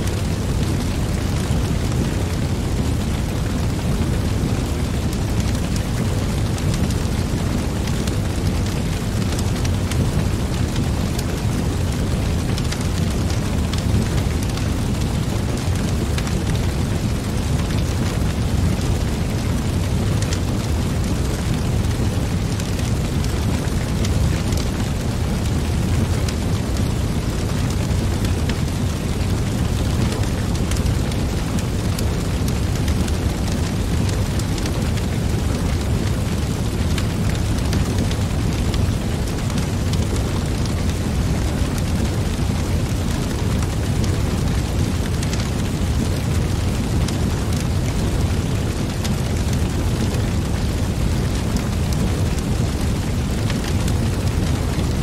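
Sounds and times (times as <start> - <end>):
burning logs crackling and popping: 0.0 - 55.0
low rumble of flames: 0.0 - 55.0.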